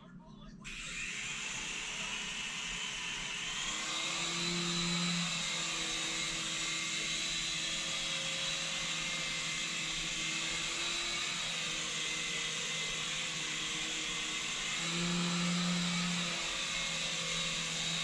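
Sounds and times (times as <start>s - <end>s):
toy helicopter rotors whirring: 0.7s - 18.0s.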